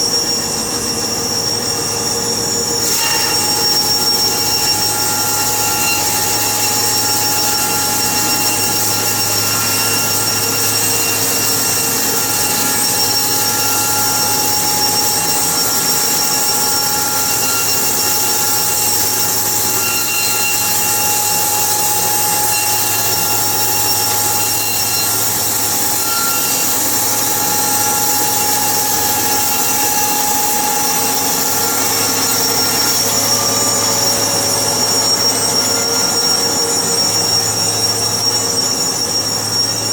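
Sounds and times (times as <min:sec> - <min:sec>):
high whining tones: 0:00.0 - 0:39.9.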